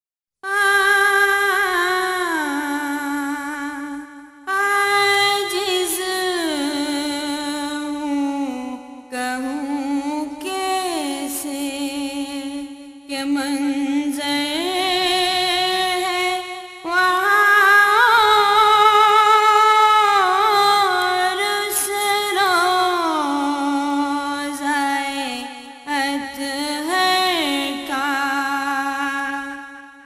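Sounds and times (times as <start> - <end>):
person singing long held notes: 0.4 - 30.0.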